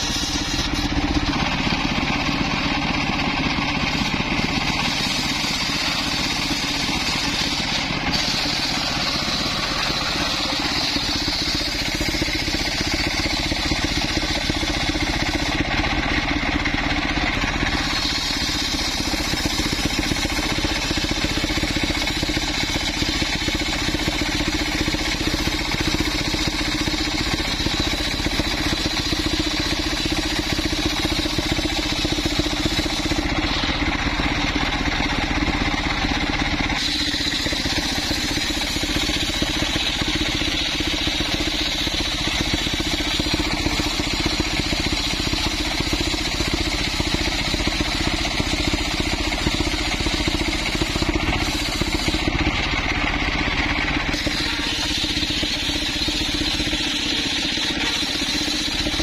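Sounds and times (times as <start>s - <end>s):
saw blade high tone: 0.0s - 59.0s
sawmill engine drone: 0.0s - 59.0s.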